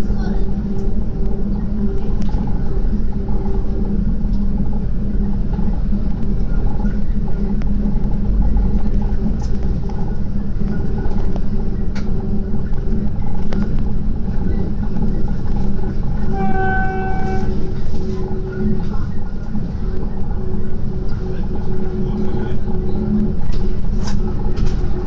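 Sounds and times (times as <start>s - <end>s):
diesel railbus rumble and hum: 0.0s - 25.0s.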